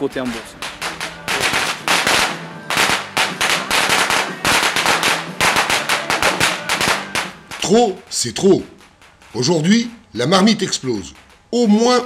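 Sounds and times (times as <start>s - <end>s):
firecrackers cracking: 0.0s - 12.0s.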